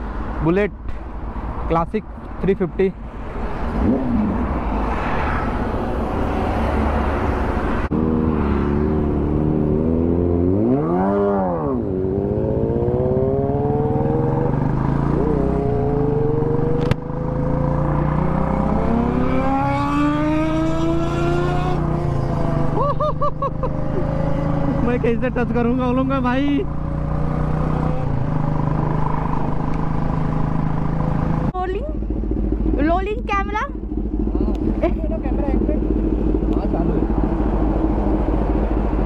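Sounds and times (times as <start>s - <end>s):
motorcycle engines running: 0.0s - 39.0s
motorcycle revving: 2.8s - 39.0s
motorcycle accelerating away: 3.7s - 39.0s.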